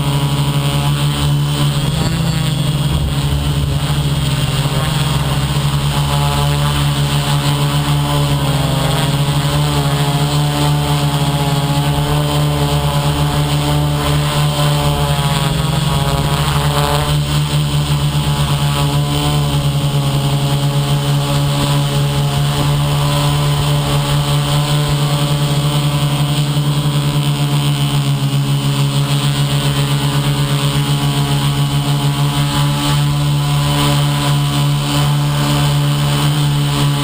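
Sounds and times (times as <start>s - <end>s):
model aircraft propeller drone: 0.0s - 37.0s.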